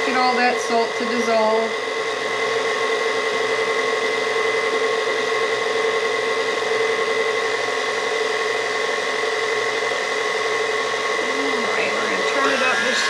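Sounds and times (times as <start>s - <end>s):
stand mixer motor whine: 0.0s - 13.0s.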